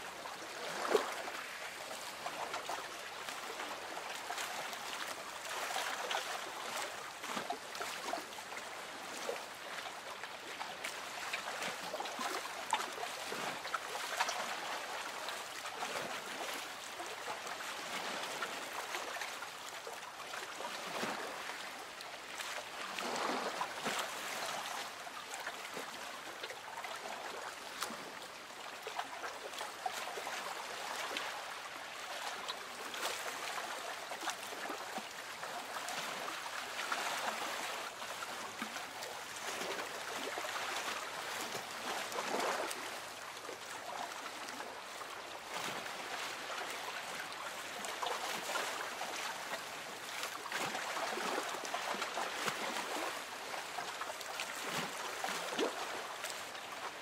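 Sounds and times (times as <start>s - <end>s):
water lapping against boat hull: 0.2s - 57.0s.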